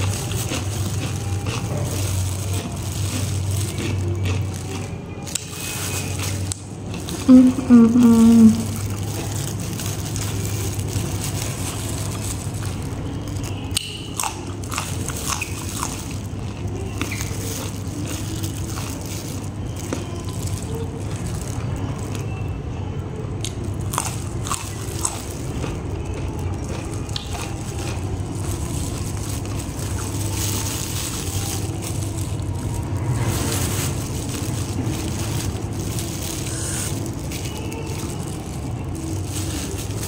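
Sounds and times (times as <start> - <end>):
crunchy chewing of raw vegetables: 0.0 - 22.6, 23.3 - 40.0.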